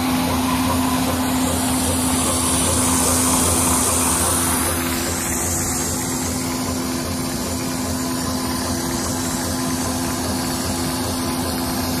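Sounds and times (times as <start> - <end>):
machinery motor drone: 0.0 - 12.0.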